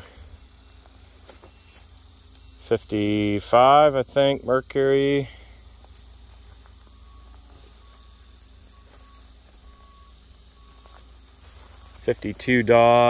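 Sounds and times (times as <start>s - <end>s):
insects chirring: 0.0s - 13.0s
low steady rumble: 0.0s - 13.0s.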